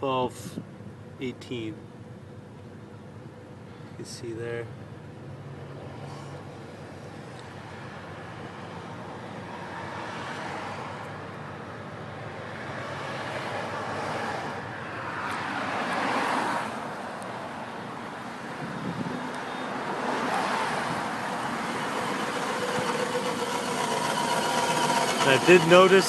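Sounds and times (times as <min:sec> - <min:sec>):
motor vehicle rumble: 0:00.0 - 0:26.0.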